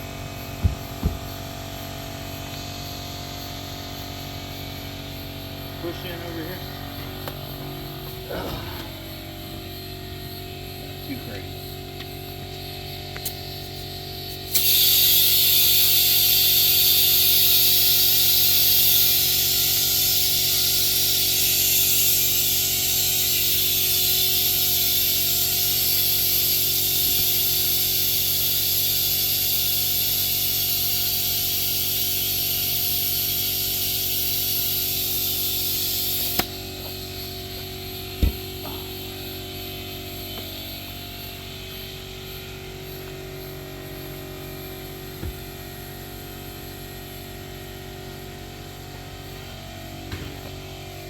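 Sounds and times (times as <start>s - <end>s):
loud steady hissing: 0.0s - 51.0s.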